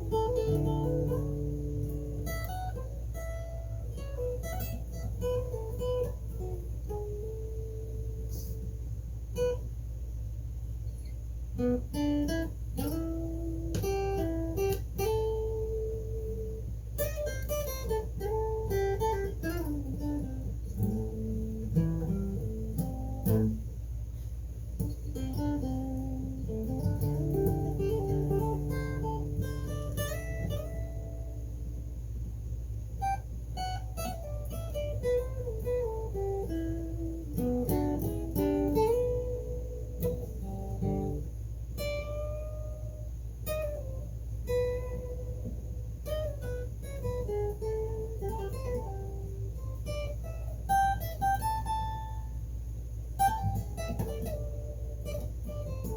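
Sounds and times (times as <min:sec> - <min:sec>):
guitar picking melody: 0:00.0 - 0:09.8, 0:10.9 - 0:55.9
steady low hum: 0:00.0 - 0:55.9.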